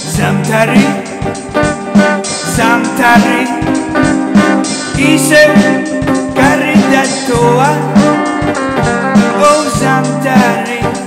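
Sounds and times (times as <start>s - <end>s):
electric guitar: 0.0s - 11.0s
steady beat: 0.0s - 11.0s.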